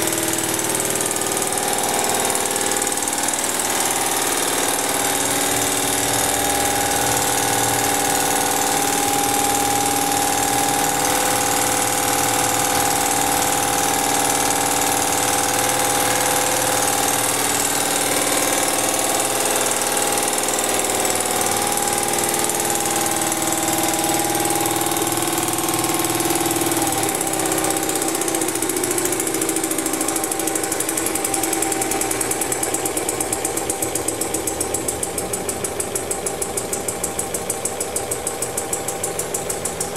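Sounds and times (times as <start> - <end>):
model engine clattering: 0.0 - 39.9.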